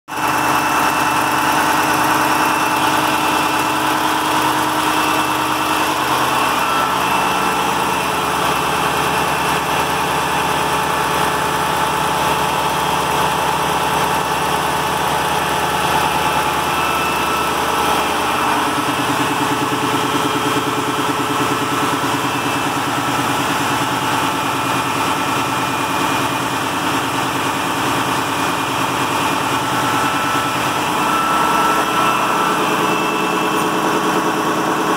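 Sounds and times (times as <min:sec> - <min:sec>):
diesel truck engine idling: 0:00.2 - 0:34.9.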